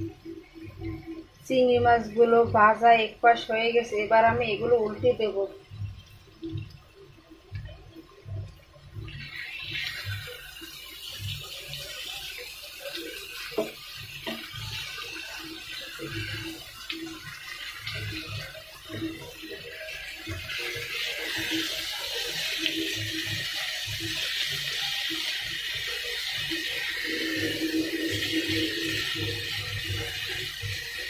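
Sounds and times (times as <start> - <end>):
prawns sizzling in oil: 0.0 - 31.0.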